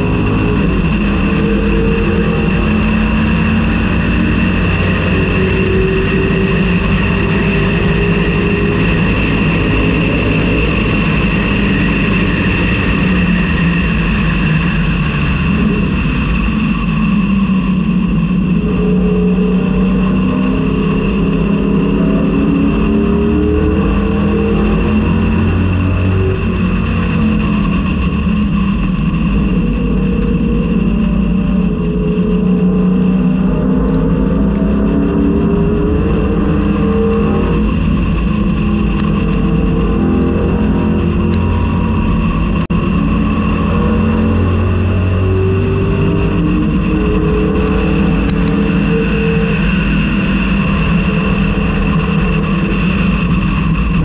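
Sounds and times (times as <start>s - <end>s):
high whine: 0.0s - 54.0s
race car engine revving: 0.0s - 54.0s.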